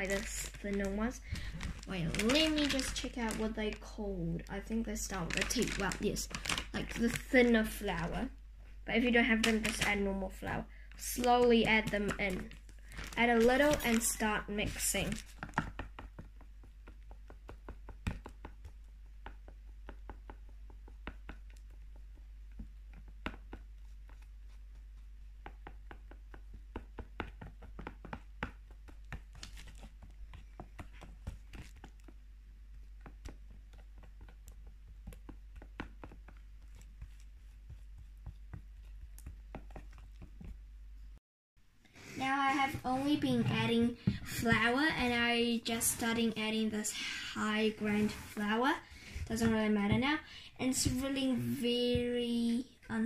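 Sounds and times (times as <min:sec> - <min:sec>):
chopsticks stirring thick slime: 0:00.0 - 0:40.6, 0:42.1 - 0:52.3.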